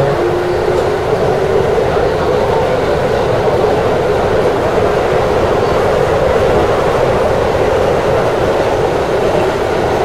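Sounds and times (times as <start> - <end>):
train wheels on rail: 0.0 - 10.0.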